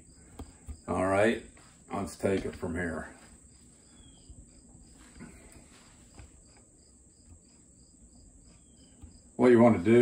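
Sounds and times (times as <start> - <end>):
faint insect chirping: 0.0 - 10.0.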